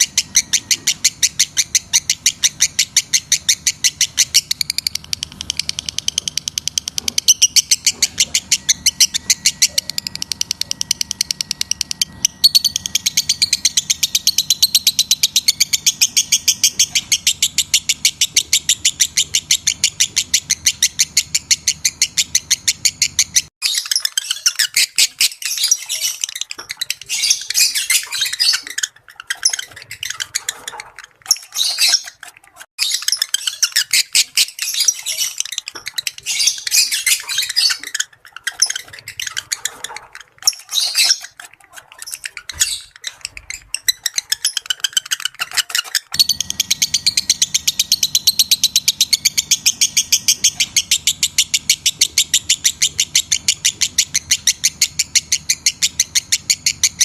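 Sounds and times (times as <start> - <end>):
lovebird chirping: 0.0 - 57.0.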